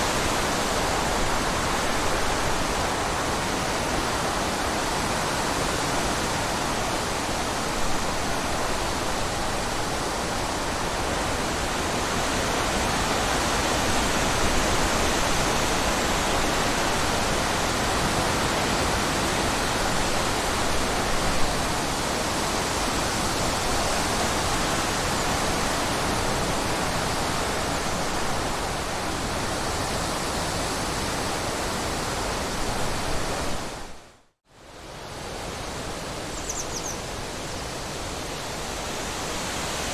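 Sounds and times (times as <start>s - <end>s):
water rushing: 0.0s - 34.0s, 35.0s - 39.9s.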